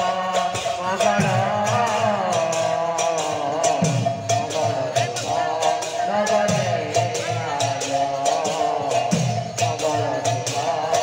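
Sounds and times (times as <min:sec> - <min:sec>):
barrel drums: 0:00.0 - 0:11.0
hand cymbals clashing: 0:00.0 - 0:11.0
person singing: 0:00.0 - 0:11.0.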